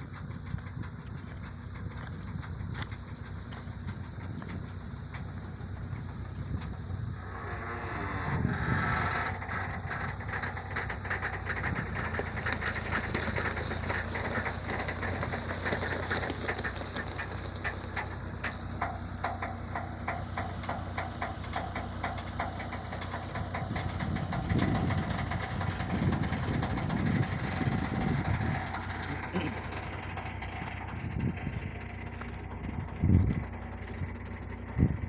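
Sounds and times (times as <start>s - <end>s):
heavy machinery engine running: 0.0s - 35.0s
rapid clattering rattle: 0.0s - 35.0s.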